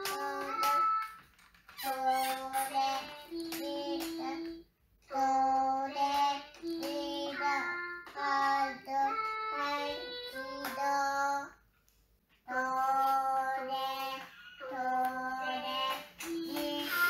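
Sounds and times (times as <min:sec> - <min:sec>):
child's voice singing through speaker: 0:00.0 - 0:01.2, 0:01.8 - 0:11.6, 0:12.5 - 0:17.0.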